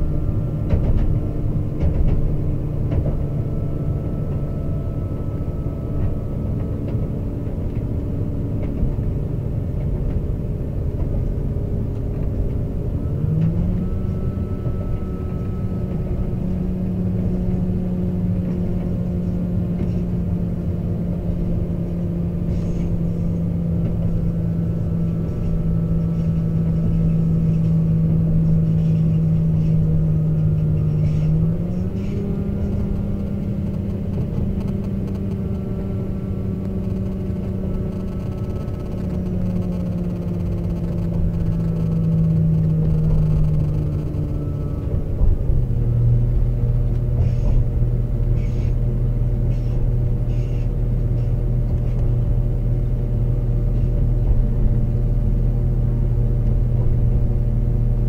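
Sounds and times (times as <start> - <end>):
diesel engine humming: 0.0 - 58.0
train wheels rumbling on track: 0.0 - 58.0.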